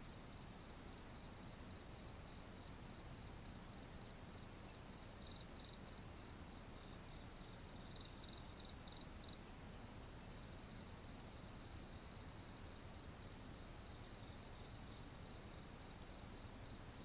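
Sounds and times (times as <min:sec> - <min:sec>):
crickets chirring: 0:00.0 - 0:17.0
loud pulsed cricket chirps: 0:00.0 - 0:17.0.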